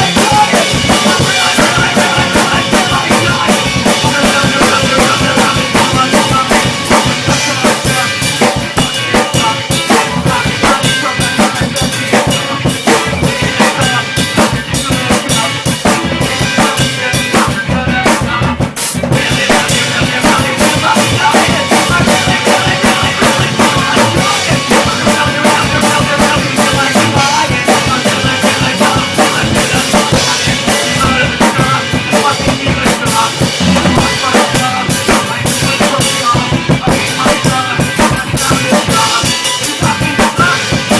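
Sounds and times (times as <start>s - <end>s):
fast drum kit playing: 0.0s - 40.9s.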